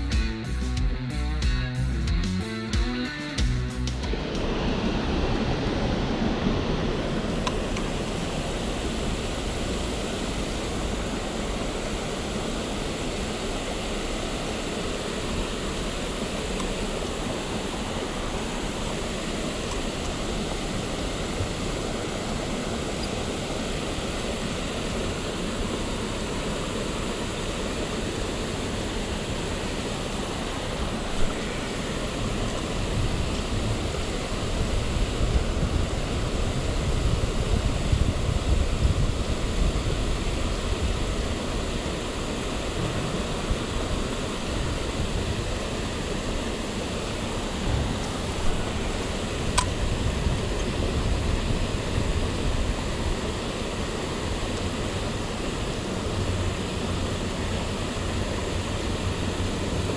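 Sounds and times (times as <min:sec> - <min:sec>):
water rushing through spillway: 0:04.0 - 0:59.9.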